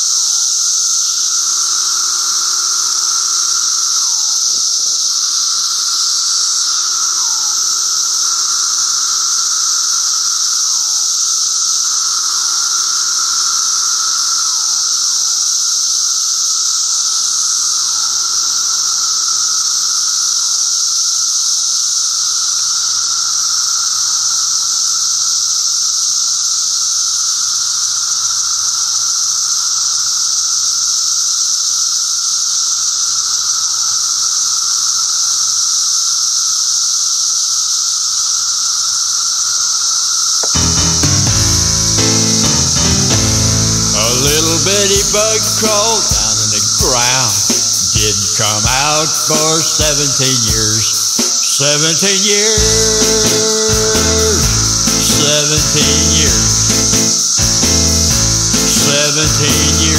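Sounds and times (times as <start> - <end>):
cicada calls dropping in pitch: 0.0 - 59.9
cicadas high-pitched drone: 0.0 - 59.9.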